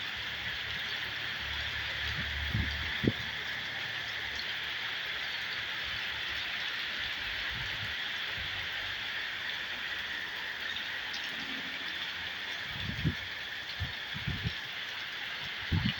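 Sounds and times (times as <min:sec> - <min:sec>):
steady rain hiss: 0:00.0 - 0:15.9.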